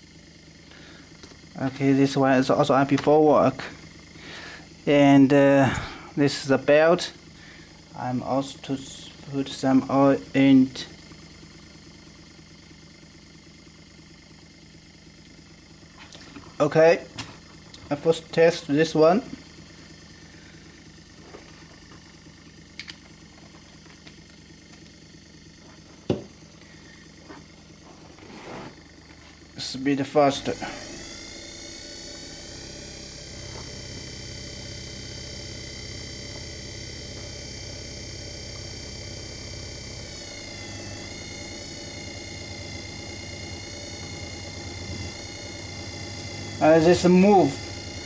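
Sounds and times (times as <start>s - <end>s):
small electric motor running: 0.0s - 48.0s.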